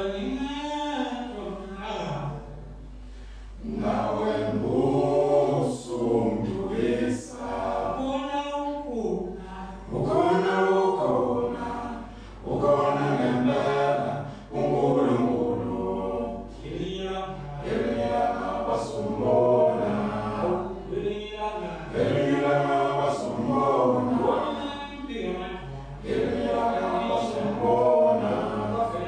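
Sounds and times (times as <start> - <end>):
male a cappella choir singing: 0.0 - 2.6, 3.4 - 29.0.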